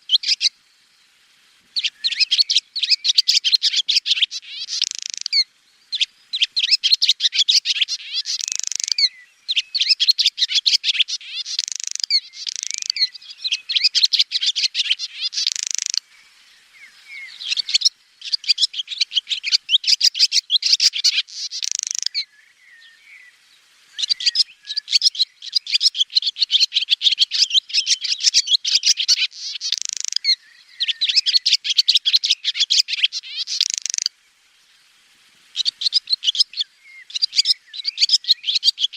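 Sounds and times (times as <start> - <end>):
swallows twittering: 0.0 - 0.5, 1.8 - 34.1, 35.5 - 38.9.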